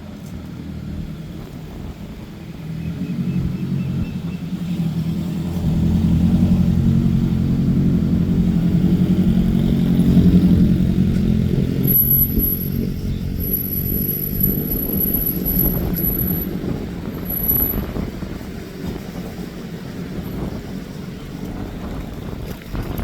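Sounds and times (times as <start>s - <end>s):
car engine running: 1.7s - 23.0s.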